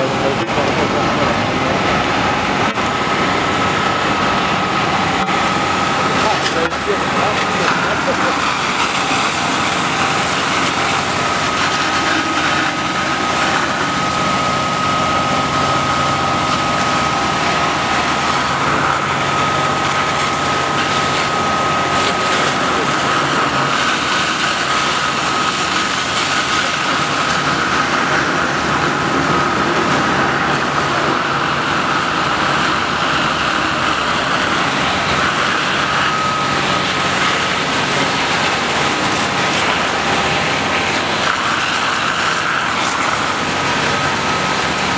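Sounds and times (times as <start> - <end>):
fire pump high whine: 0.0 - 44.9
fire truck engine drone: 0.0 - 44.9.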